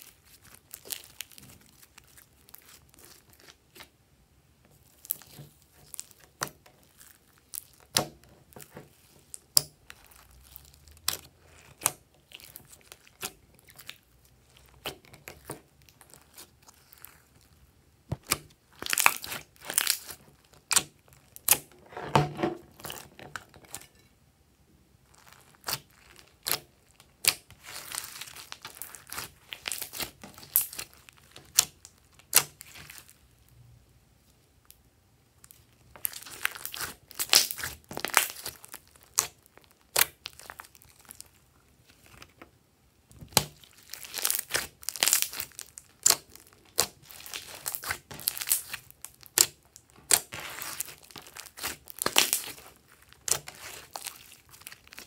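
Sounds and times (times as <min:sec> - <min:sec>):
slime crackling and popping: 0:00.0 - 0:03.9, 0:04.8 - 0:21.8, 0:25.1 - 0:33.3, 0:35.4 - 0:42.4, 0:43.1 - 0:55.0.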